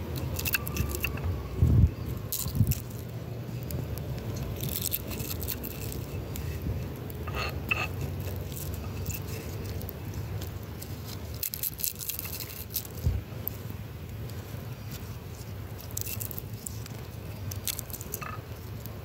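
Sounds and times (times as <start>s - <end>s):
stone crushing walnuts: 0.0s - 1.3s, 2.2s - 13.5s, 15.7s - 19.0s.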